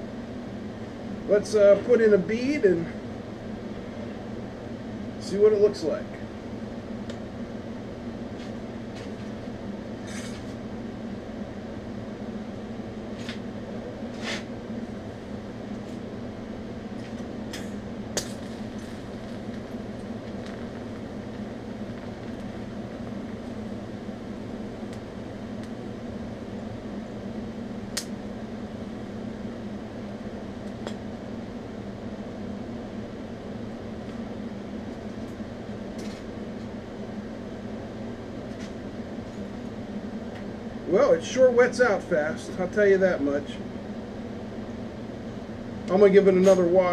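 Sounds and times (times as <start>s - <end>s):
welding electrical hum: 0.0s - 46.9s.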